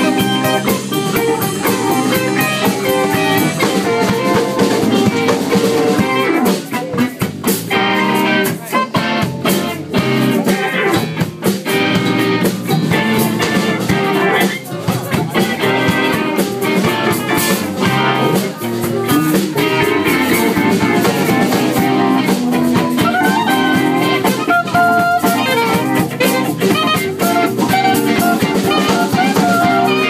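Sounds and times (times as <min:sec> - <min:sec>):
drum kit: 0:00.0 - 0:30.0
electric guitar: 0:00.0 - 0:30.0.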